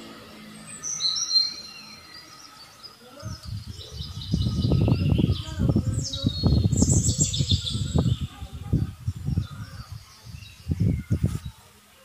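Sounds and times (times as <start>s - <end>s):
low rumbling and buffeting: 0.0s - 11.6s
small birds chirping: 0.0s - 12.0s.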